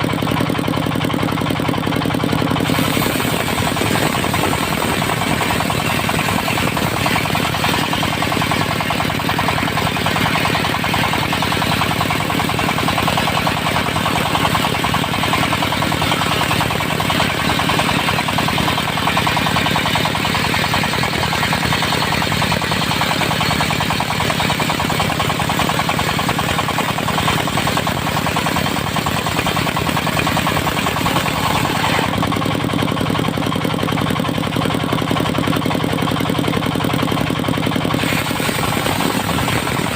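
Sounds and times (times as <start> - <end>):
diesel engine knocking: 0.0 - 39.9
saw blade cutting wood: 2.6 - 32.5, 37.8 - 39.9.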